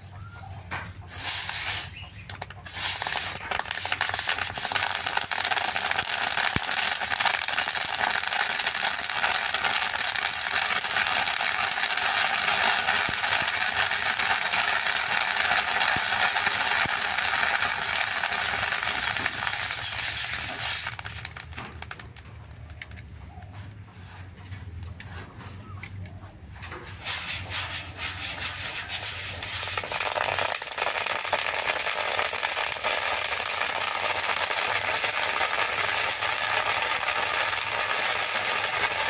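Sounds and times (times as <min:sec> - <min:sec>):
seeds popping: 0:00.0 - 0:23.6, 0:27.0 - 0:39.0
sand scraping in a pan: 0:01.0 - 0:21.2, 0:26.8 - 0:39.0.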